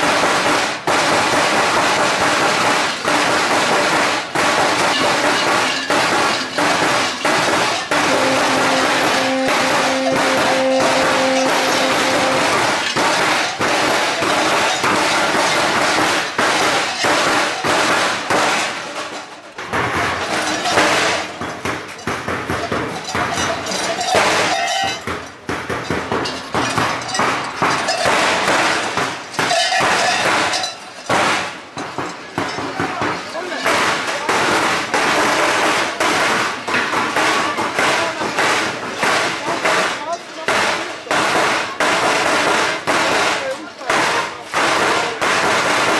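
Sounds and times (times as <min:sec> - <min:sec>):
wooden clubs clanging on metal trays: 0:00.0 - 0:45.9.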